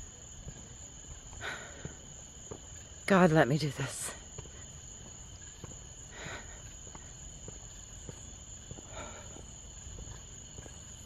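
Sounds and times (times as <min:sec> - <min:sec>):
faint rustling footsteps: 0:00.0 - 0:11.0
night insects trilling: 0:00.0 - 0:11.0.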